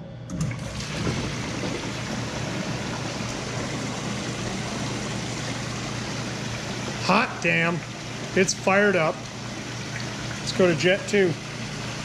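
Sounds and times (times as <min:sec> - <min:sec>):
low pump motor hum: 0:00.0 - 0:12.0
hot tub jets churning water: 0:00.3 - 0:12.0.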